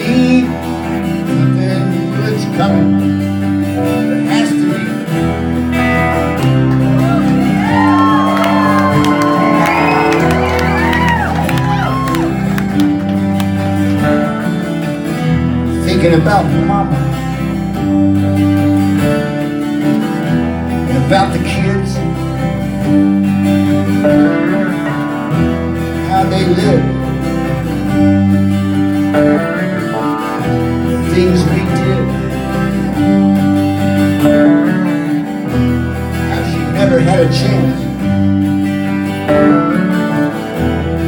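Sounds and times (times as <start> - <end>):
bass guitar: 0.0 - 41.0
drums: 0.0 - 41.0
electric guitar chords: 0.0 - 41.0.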